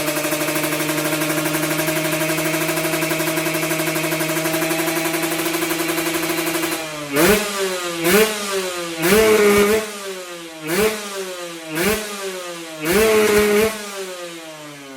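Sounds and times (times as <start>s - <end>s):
motorcycle throttle blips: 0.0s - 11.1s, 12.8s - 14.0s
motorcycle engine idling: 0.0s - 14.9s.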